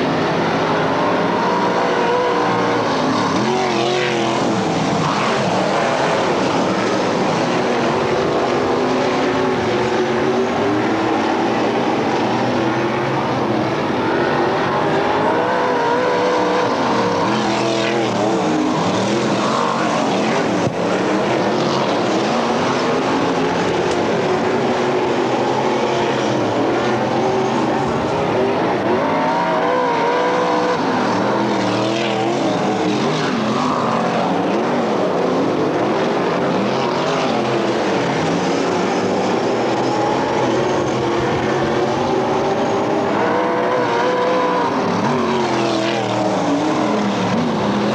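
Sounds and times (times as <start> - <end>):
race car engines: 0.0 - 47.9.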